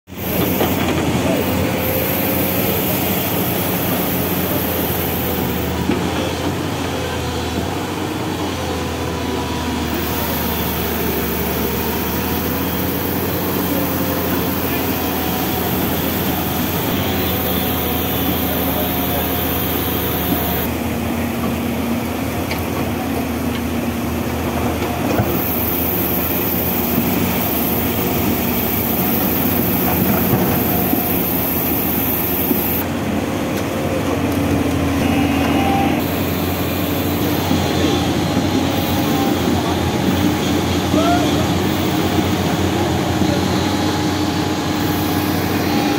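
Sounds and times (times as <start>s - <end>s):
diesel engines droning under load: 0.1s - 45.9s.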